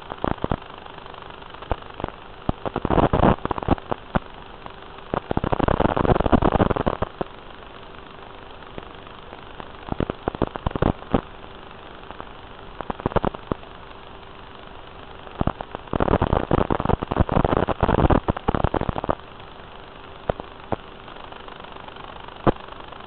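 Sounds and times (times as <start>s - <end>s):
faint steady hum: 0.0s - 23.0s
static hiss and crackling: 0.0s - 23.0s.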